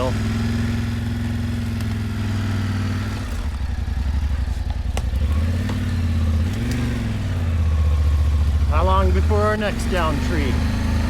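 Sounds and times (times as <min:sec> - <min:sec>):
engine running at low speed: 0:00.0 - 0:11.0.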